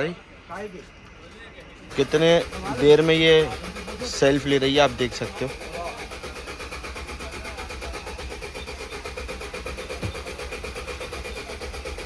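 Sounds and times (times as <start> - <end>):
engine cranking without firing: 1.0 - 12.0.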